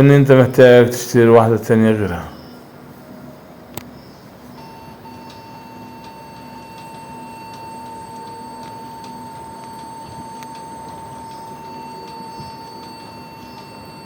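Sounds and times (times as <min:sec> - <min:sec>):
continuous high laptop beep: 0:01.4 - 0:14.0.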